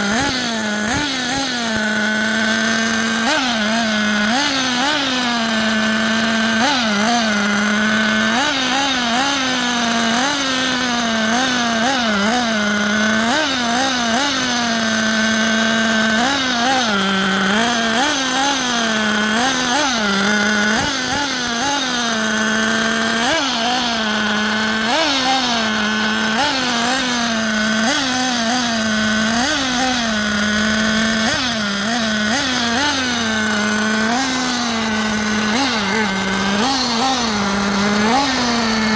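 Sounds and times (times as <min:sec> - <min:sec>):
engine throttle blips: 0:00.0 - 0:38.9
model engine idling high-pitched: 0:00.0 - 0:38.9.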